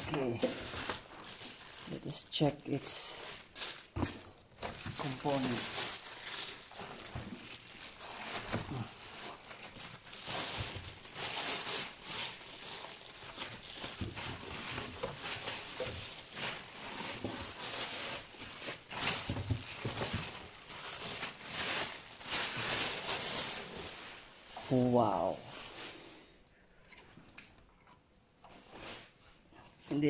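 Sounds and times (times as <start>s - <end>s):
plastic bag crinkling: 0.0s - 25.6s.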